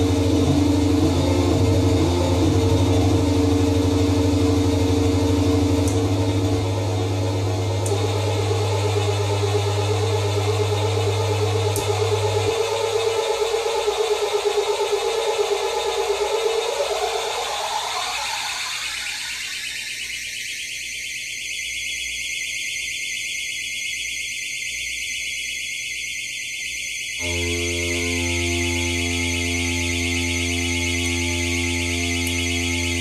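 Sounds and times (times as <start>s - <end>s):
pulsing buzzy synthesizer tone: 0.0s - 22.8s, 24.9s - 33.0s.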